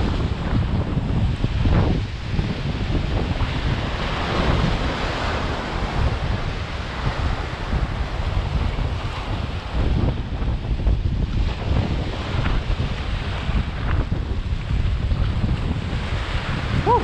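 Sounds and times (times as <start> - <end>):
surf breaking over boulders: 0.0 - 17.0
wind buffeting microphone: 0.0 - 17.0.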